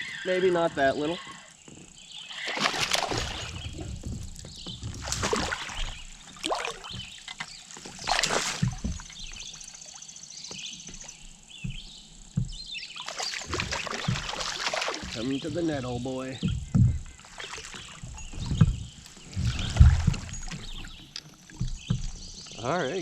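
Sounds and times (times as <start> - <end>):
water splashing beside kayak: 0.3 - 23.0.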